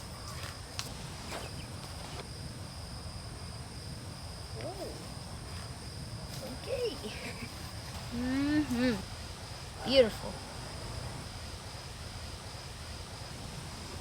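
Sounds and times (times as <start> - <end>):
high-pitched insect drone: 0.0 - 12.8.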